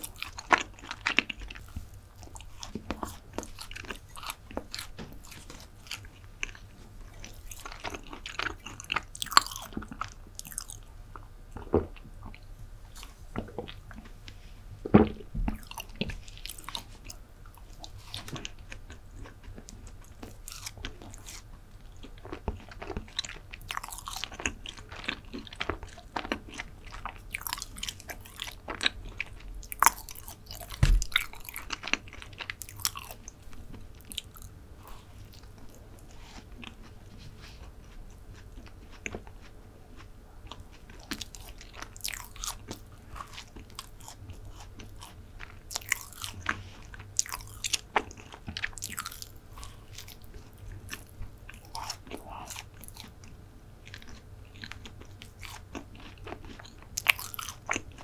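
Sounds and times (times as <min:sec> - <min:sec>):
chewing crumbly food: 0:00.0 - 0:58.0.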